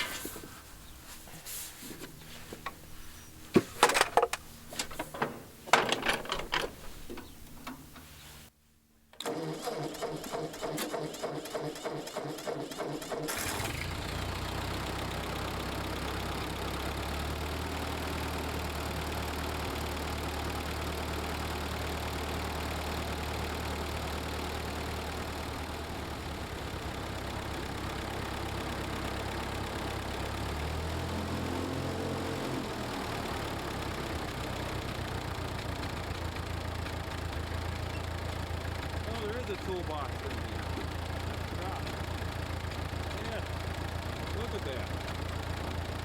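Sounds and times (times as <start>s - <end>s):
tractor engine idling: 2.0s - 8.5s, 9.2s - 46.0s.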